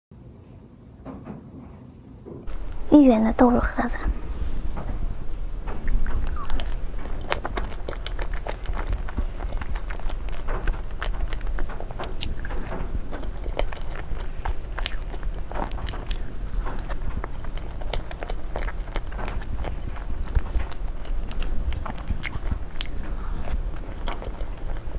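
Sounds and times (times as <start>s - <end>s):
steady low hum: 0.1s - 24.9s
sharp crackles and clicks: 2.5s - 24.9s
crunchy biting and chewing: 4.2s - 24.9s.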